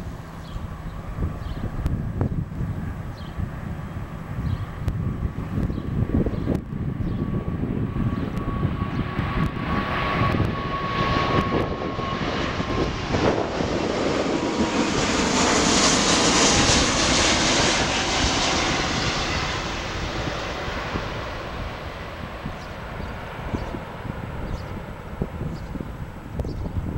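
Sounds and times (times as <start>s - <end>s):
jet plane passing overhead: 0.0s - 26.9s.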